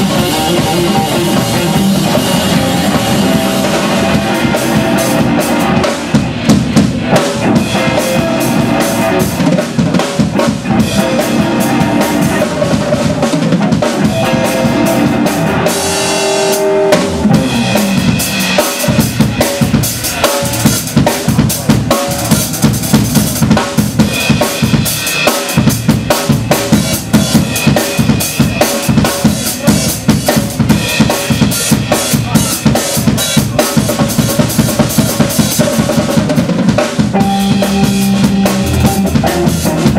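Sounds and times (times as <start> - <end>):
drum kit beat with rimshots: 0.0 - 39.9
live blues band playing: 0.0 - 39.9.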